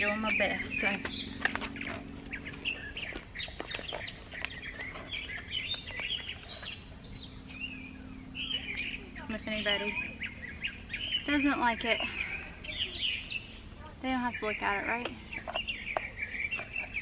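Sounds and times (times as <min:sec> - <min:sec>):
faint low hum: 0:00.0 - 0:17.0
small birds chirping: 0:00.0 - 0:17.0.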